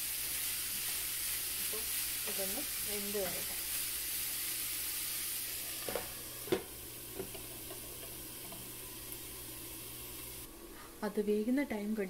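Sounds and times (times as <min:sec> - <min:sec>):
vegetables sizzling in a frying pan: 0:00.0 - 0:10.5.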